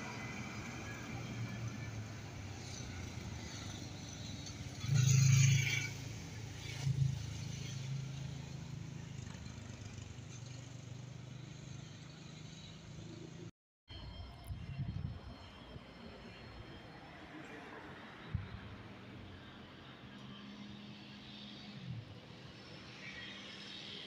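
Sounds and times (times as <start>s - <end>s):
tram electric hum: 0.0s - 4.8s, 5.9s - 24.0s.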